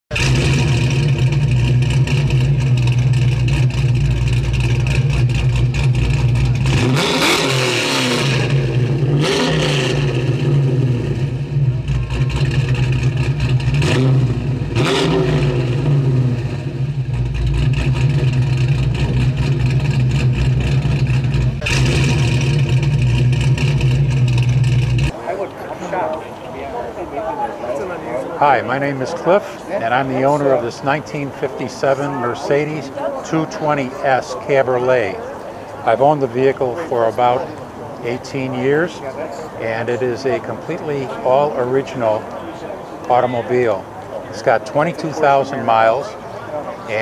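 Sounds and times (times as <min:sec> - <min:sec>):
low engine rumble: 0:00.1 - 0:47.0.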